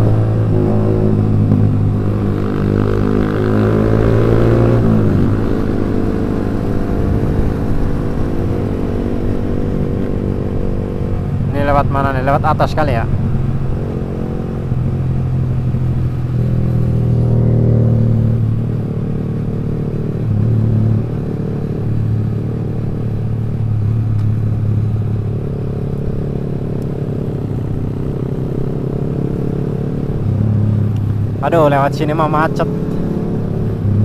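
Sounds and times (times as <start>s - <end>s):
motorcycle engine with loud exhaust: 0.0s - 34.0s.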